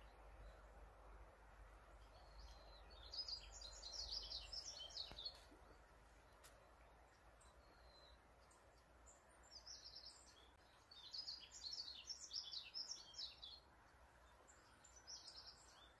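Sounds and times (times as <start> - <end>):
faint steady background hiss: 0.0 - 16.0
songbird chattering song: 0.0 - 16.0.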